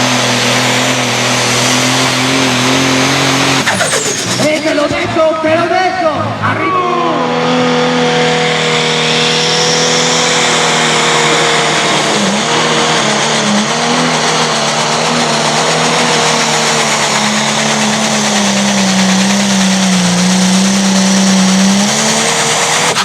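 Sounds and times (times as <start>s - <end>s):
engine running hard under load: 0.0s - 23.0s.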